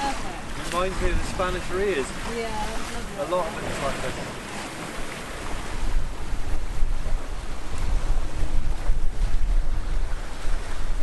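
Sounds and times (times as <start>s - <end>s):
water rushing along boat hull: 0.0s - 11.0s
wind buffeting microphone: 0.0s - 11.0s.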